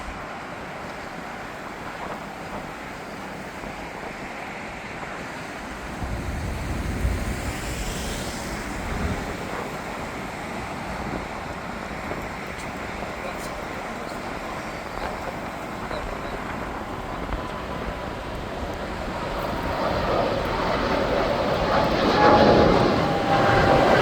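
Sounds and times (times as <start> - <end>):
jet engine roar: 0.0 - 24.0
wind buffeting microphone: 0.0 - 24.0.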